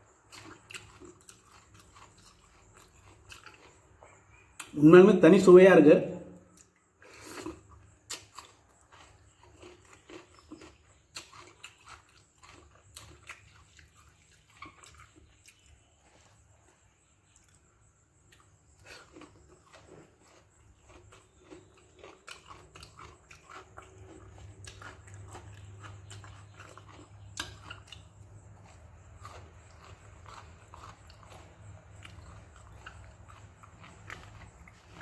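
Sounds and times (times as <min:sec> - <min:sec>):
person chewing with wet smacks: 0:00.0 - 0:04.8, 0:06.5 - 0:35.0.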